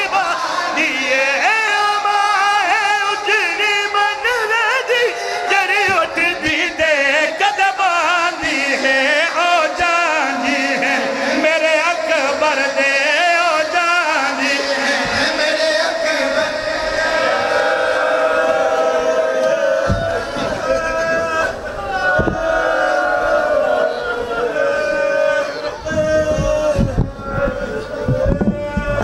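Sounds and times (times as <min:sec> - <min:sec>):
crowd of mourners: 0:00.0 - 0:29.0
man chanting a lament: 0:00.0 - 0:29.0.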